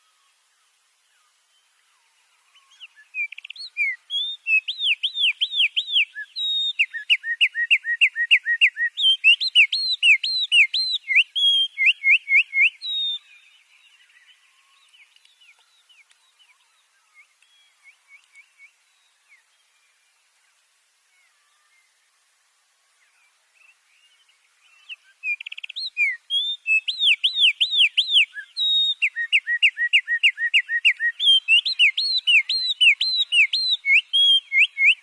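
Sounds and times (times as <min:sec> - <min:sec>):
faint bird chirps: 0:00.0 - 0:35.0
songbirds singing: 0:00.0 - 0:35.0.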